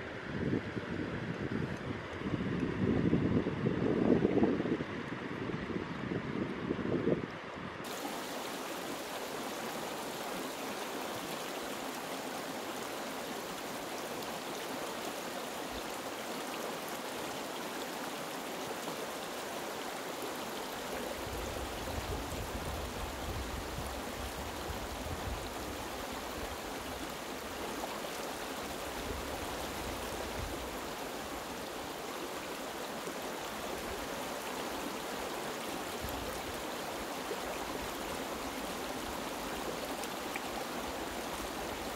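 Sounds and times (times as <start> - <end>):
stream rushing over boulders: 6.6 - 41.9.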